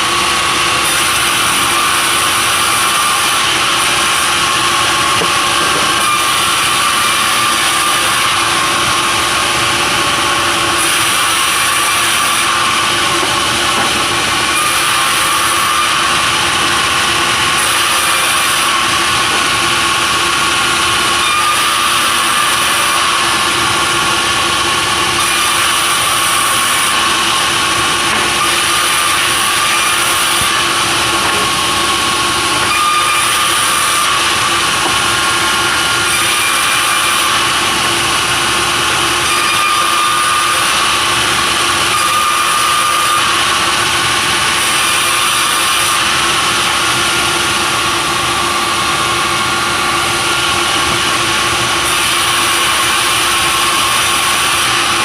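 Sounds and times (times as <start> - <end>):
sawmill machinery cutting timber: 0.0 - 55.0.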